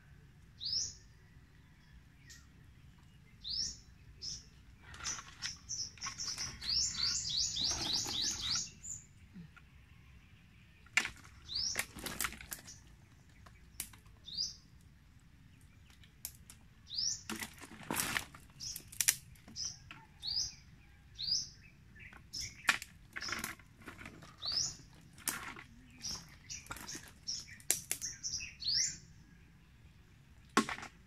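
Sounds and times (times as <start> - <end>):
bird chirping: 0.4 - 14.8, 16.8 - 17.3, 18.5 - 30.3.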